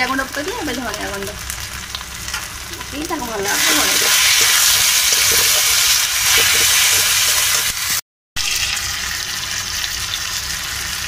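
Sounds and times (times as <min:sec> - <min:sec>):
masala sizzling in hot oil: 0:00.0 - 0:11.0.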